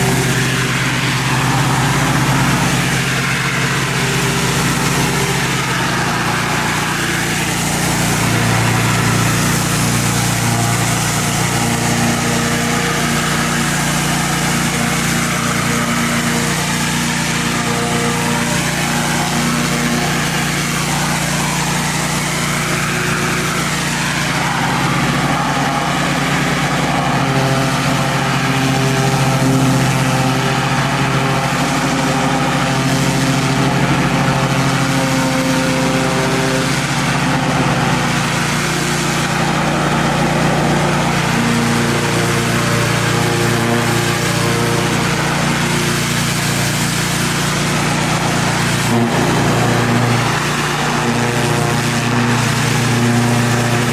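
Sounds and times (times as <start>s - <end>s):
high-pressure water spray hiss: 0.0s - 53.9s
pressure washer engine running: 0.0s - 53.9s.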